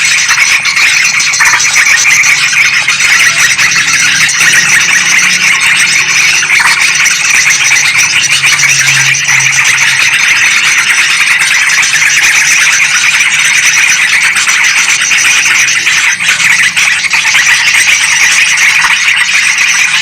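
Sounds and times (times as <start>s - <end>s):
bulbuls chattering: 0.7s - 18.8s.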